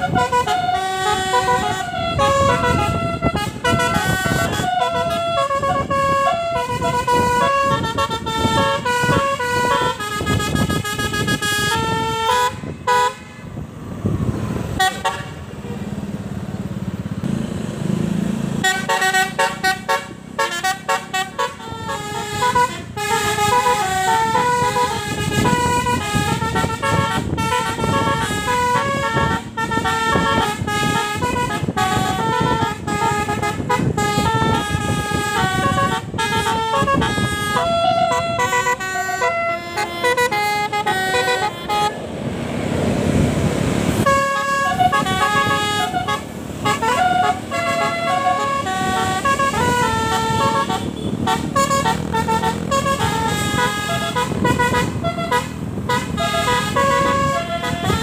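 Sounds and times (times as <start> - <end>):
musical bus horn: 0.0 - 13.7, 14.7 - 15.8, 18.6 - 42.6, 43.9 - 58.0.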